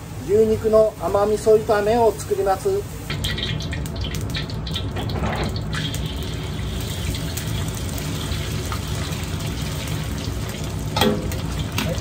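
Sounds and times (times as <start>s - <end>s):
beef sizzling in hot oil: 0.0s - 12.0s
gas burner running: 0.0s - 12.0s.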